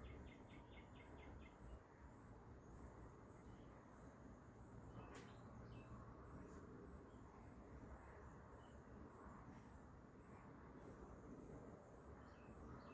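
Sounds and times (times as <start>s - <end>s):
low background hiss: 0.0s - 12.9s.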